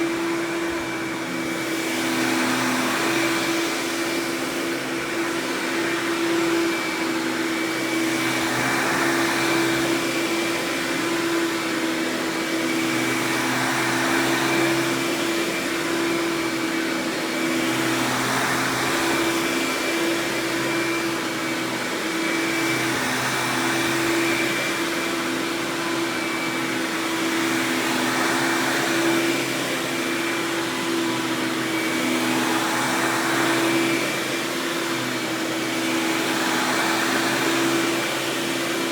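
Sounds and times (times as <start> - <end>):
upright vacuum running: 0.0 - 38.9.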